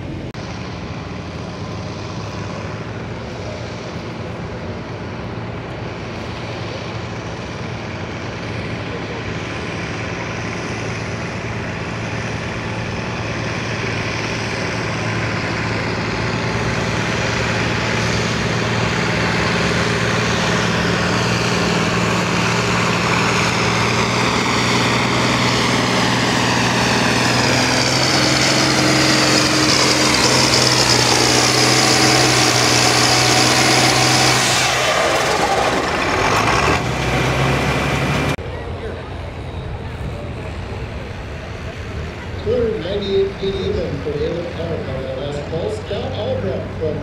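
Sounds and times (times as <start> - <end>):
tractor diesel engine at full throttle: 0.0 - 47.0.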